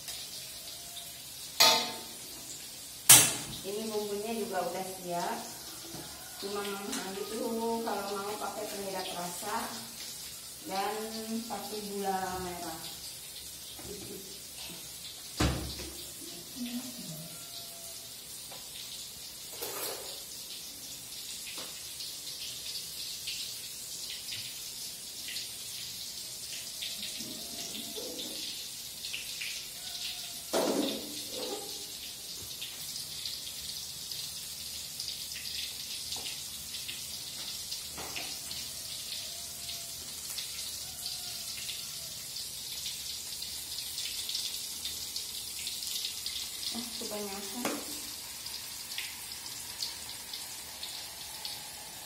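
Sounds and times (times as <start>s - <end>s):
oil hissing in a wok: 0.0s - 52.0s.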